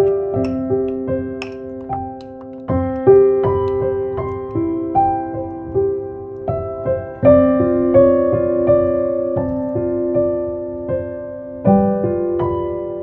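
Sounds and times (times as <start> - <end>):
gentle solo piano music: 0.0 - 13.0.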